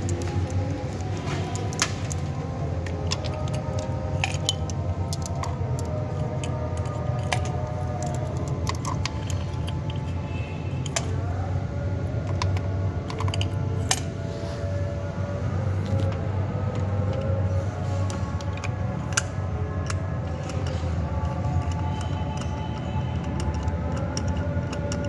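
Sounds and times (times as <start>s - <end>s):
metal tools clinking and rattling: 0.0s - 14.3s, 15.8s - 25.0s
steady low hum: 0.0s - 25.0s.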